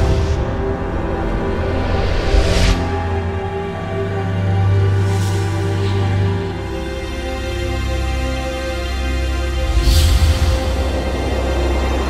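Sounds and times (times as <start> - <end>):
ominous drone music: 0.0 - 12.0.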